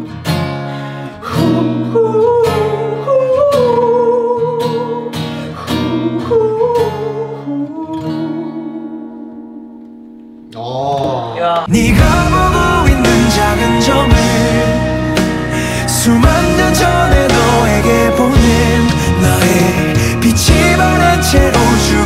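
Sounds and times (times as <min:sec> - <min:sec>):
acoustic guitar strumming: 0:00.0 - 0:10.6, 0:11.6 - 0:22.0
person singing with vibrato: 0:01.2 - 0:09.6, 0:10.6 - 0:22.0.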